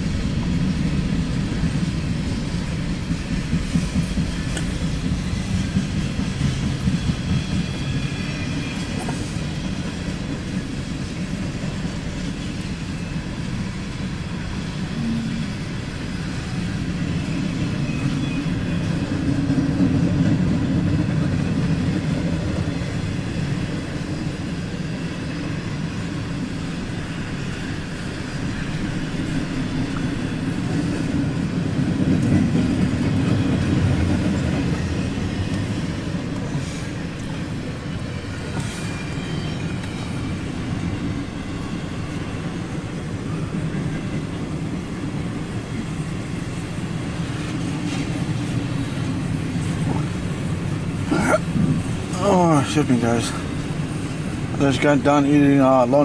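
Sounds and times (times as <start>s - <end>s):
freight train cars rolling past: 0.0s - 56.0s.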